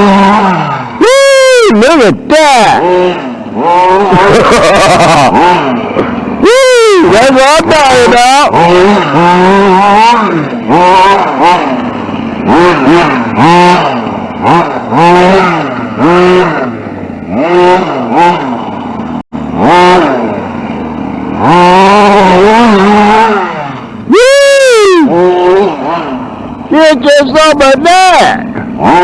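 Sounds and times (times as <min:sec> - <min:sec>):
rc truck motor revving: 0:00.0 - 0:29.0.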